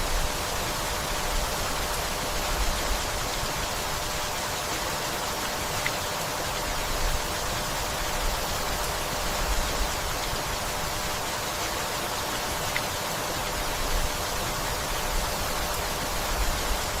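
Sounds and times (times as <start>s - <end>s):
gentle rainfall: 0.0s - 17.0s.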